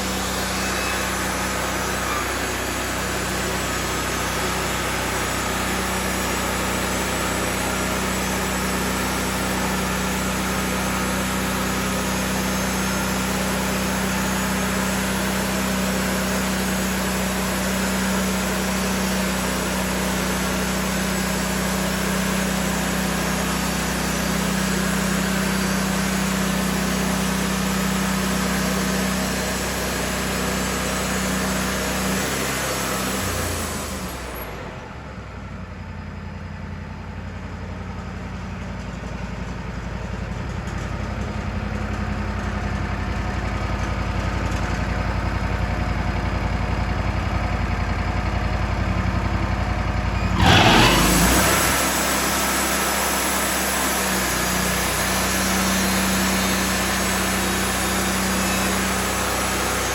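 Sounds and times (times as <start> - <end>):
sawmill engine running: 0.0 - 36.0, 37.1 - 59.9.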